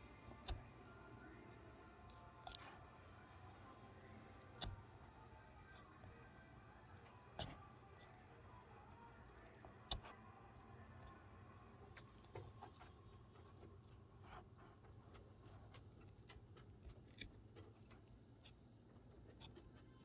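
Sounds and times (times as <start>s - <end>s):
carving knife scraping wood: 0.0s - 3.0s, 3.8s - 8.2s, 9.0s - 10.2s, 12.0s - 20.0s
low room hum: 0.0s - 20.0s.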